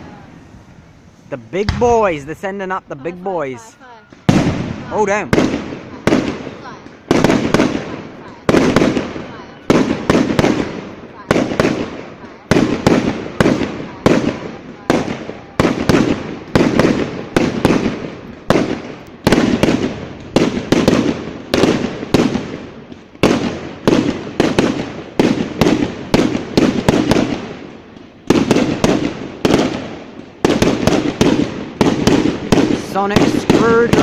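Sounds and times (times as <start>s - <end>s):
fireworks bursting with echo: 0.0s - 34.0s.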